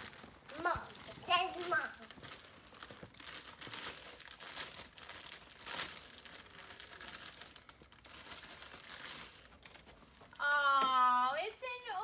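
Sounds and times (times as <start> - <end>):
wrapping paper rustling: 0.0 - 10.5.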